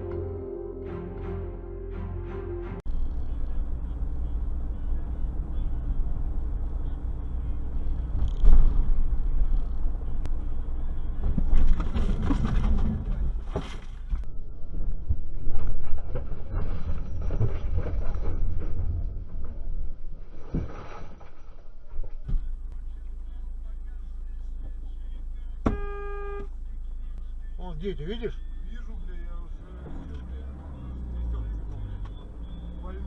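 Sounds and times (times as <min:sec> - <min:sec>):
car road and engine rumble: 0:02.8 - 0:33.0.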